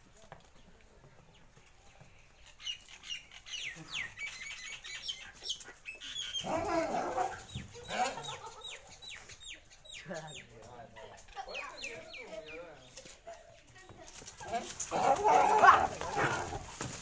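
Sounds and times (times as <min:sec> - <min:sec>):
birds chirping: 0:00.4 - 0:17.0.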